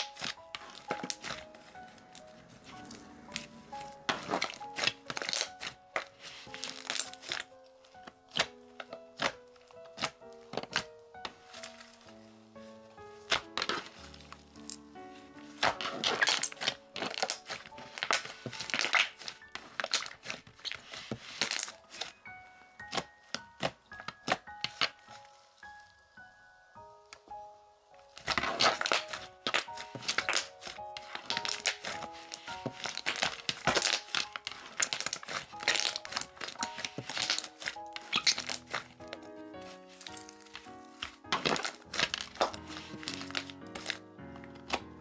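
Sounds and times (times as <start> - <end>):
hands squishing slime: 0.0 - 11.9, 13.2 - 14.8, 15.4 - 22.2, 28.2 - 44.9
soft background music: 0.0 - 45.0.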